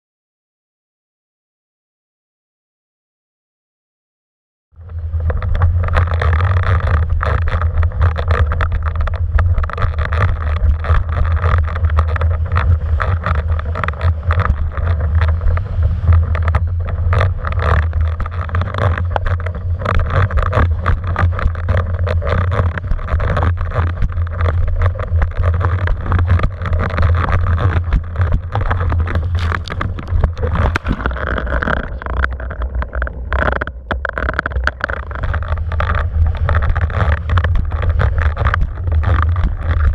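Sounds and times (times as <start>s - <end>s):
wind buffeting microphone: 4.8s - 39.9s.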